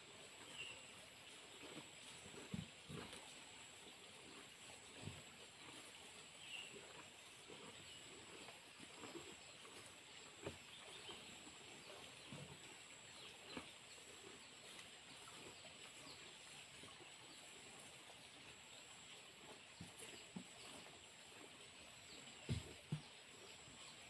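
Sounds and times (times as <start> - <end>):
cows chewing leaves: 0.0 - 24.0.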